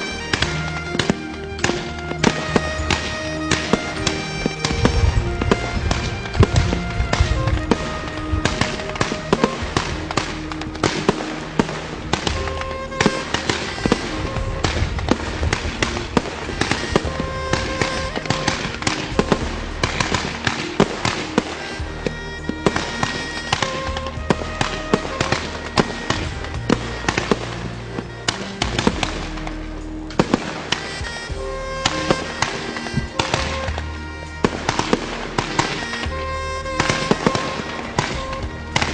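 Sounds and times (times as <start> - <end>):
background music with held notes: 0.0 - 38.9
fireworks cracks and bangs: 0.0 - 38.9.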